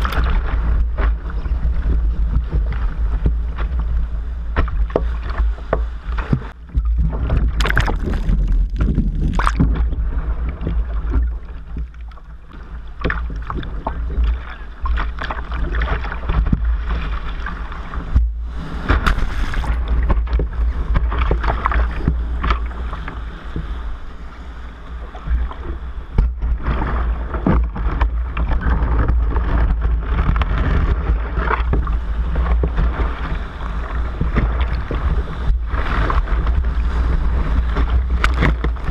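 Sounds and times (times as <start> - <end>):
steady low rumble: 0.0 - 38.9
surf churning and splashing: 0.0 - 38.9.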